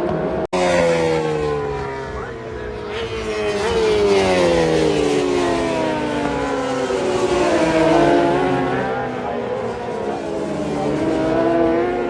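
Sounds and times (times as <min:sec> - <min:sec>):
racing motorcycle engine: 0:00.0 - 0:12.0.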